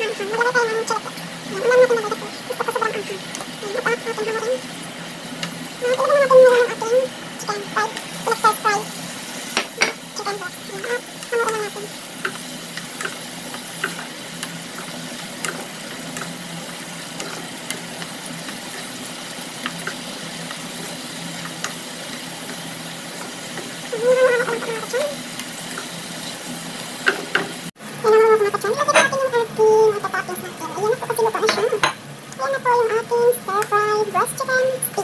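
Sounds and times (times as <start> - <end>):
chicken sizzling in a frying pan: 0.0 - 35.0.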